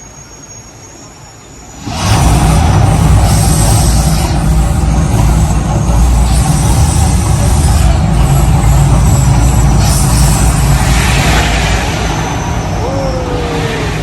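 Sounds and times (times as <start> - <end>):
rushing hiss: 1.6 - 14.0
deep rumble: 1.7 - 14.0.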